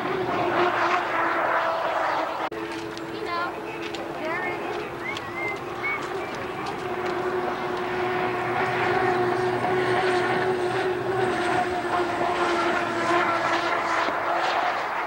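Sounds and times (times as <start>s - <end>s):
racing boat engine: 0.0s - 15.0s.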